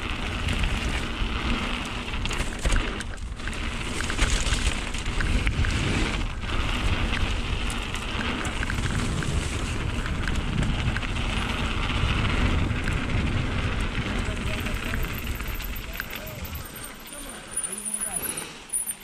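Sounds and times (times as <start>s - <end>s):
wind on microphone: 0.0s - 16.9s
bike clicks and rattles: 0.0s - 19.0s
tyres on wet dirt: 0.0s - 19.0s.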